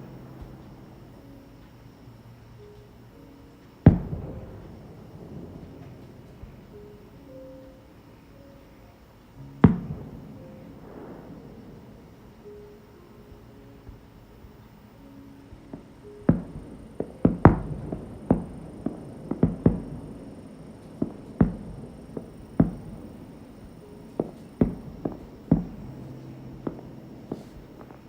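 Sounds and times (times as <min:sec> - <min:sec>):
fireworks booming: 0:00.0 - 0:14.9, 0:15.7 - 0:28.0.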